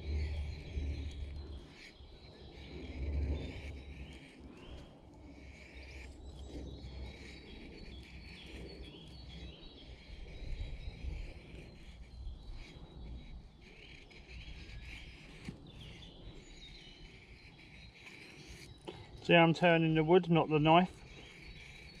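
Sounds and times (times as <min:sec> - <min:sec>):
birdsong: 0:00.0 - 0:22.0
knife scraping wooden stick: 0:00.0 - 0:22.0.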